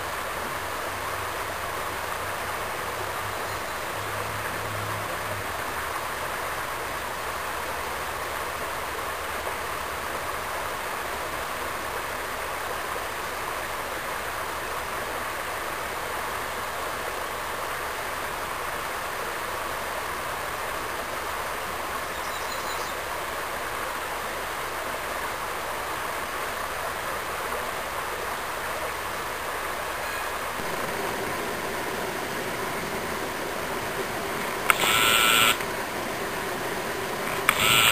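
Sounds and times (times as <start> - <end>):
creek water running: 0.0 - 37.9.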